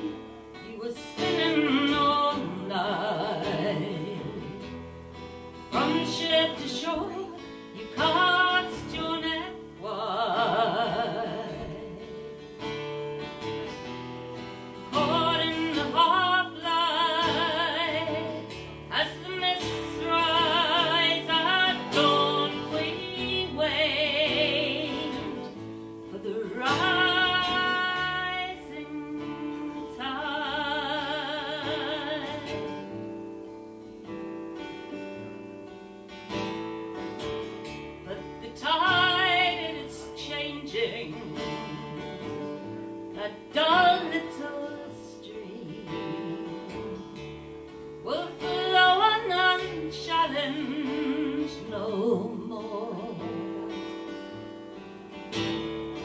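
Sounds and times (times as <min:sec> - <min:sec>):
woman singing: 0:00.0 - 0:33.4, 0:37.0 - 0:56.0
acoustic guitar: 0:00.0 - 0:56.0.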